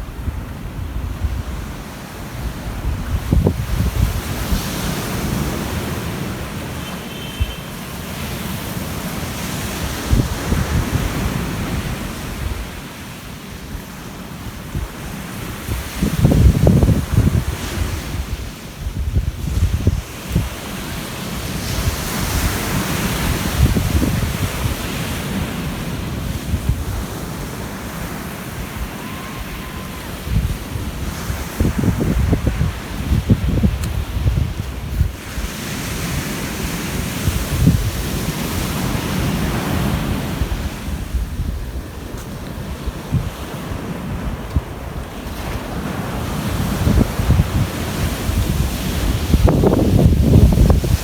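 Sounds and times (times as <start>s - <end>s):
ocean surf washing onto beach: 0.0s - 51.0s
wind buffeting the microphone: 0.0s - 51.0s.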